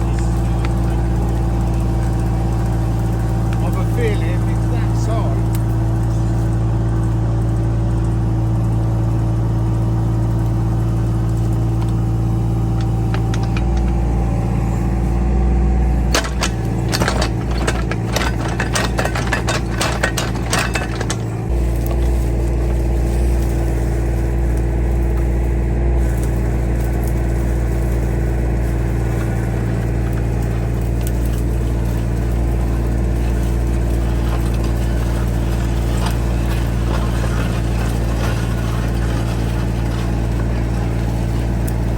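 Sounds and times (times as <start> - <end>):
rattling and clattering: 0.0 - 15.2, 15.8 - 41.9
vehicle engine droning: 0.0 - 41.9.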